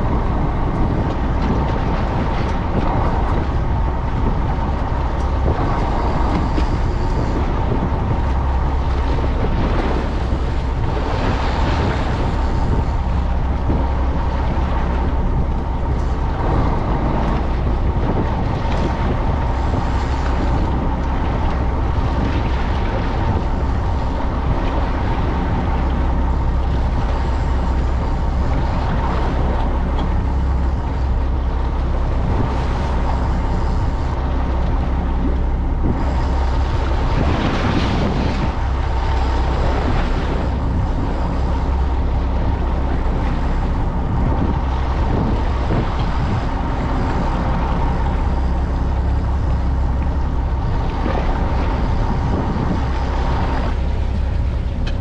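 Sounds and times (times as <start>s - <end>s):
boat engine humming: 0.0s - 55.0s
water noise: 0.0s - 55.0s
wind: 0.0s - 55.0s.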